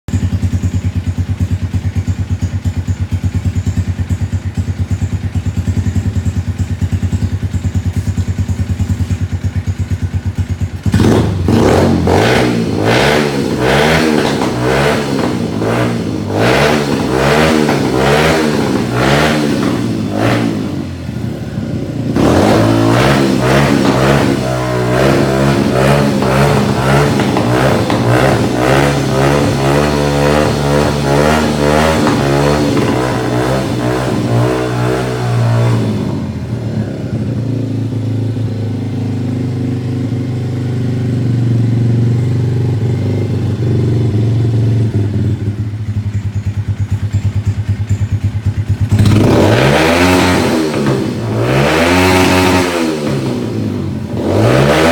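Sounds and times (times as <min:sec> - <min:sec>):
motorcycle engine revving: 0:00.0 - 0:54.9
motorcycle engine idling: 0:00.1 - 0:22.4, 0:23.2 - 0:35.1, 0:35.8 - 0:49.5.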